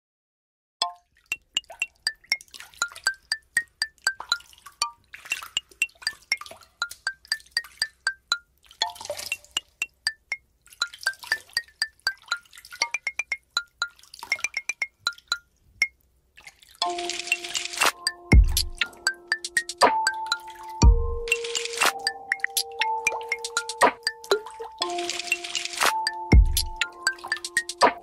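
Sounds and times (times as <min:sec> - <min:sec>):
light plinking background music: 0:00.8 - 0:16.0, 0:16.8 - 0:28.0.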